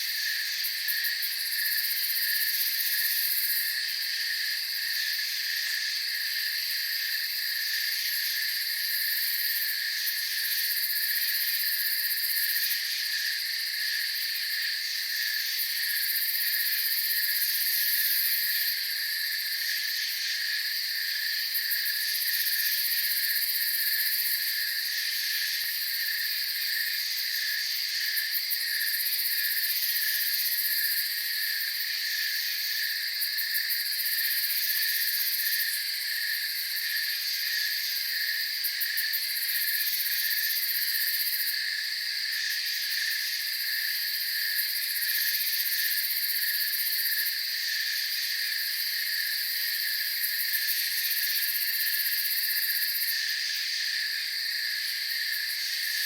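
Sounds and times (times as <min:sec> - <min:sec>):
crickets trilling: 0:00.0 - 0:56.0
low pulsing insect trill: 0:00.0 - 0:56.0.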